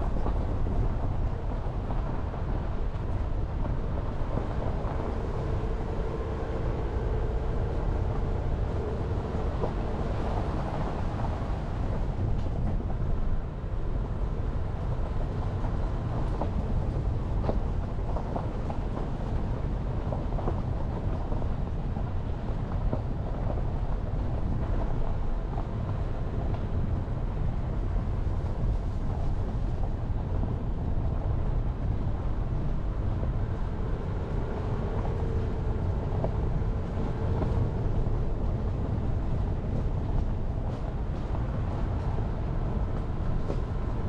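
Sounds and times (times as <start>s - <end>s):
car engine and tyre noise: 0.0s - 44.0s.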